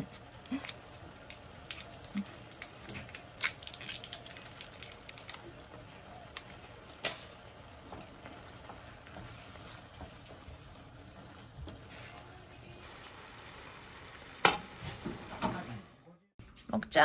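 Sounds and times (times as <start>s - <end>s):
pasta sizzling in a frying pan: 0.0s - 16.0s.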